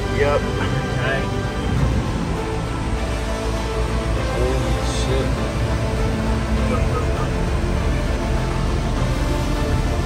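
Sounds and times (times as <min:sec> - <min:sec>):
background music sustained notes: 0:00.0 - 0:10.0.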